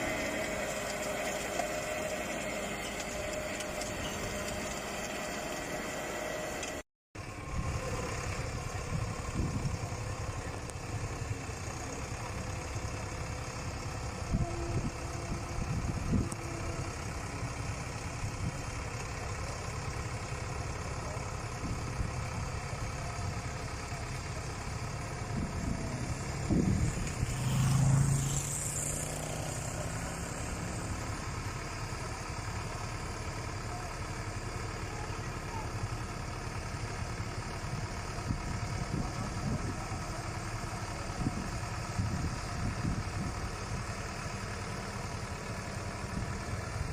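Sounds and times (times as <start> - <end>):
crawler tractor engine running: 0.0 - 46.9.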